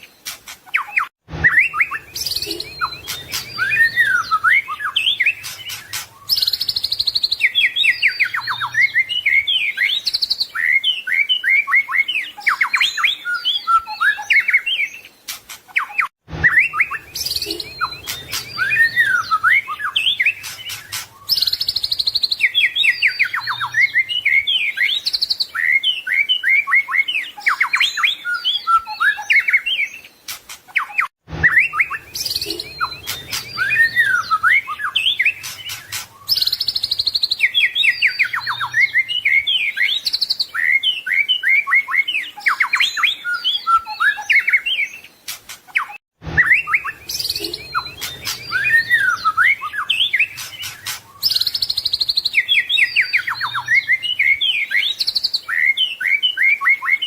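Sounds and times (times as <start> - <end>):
bird singing whistles and trills: 0.0 - 15.1, 15.7 - 57.0.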